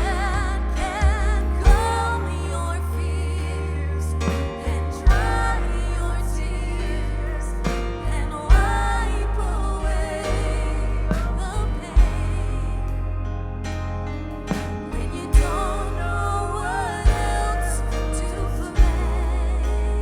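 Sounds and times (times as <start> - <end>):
live worship band playing: 0.0 - 20.0
person singing: 0.0 - 20.0.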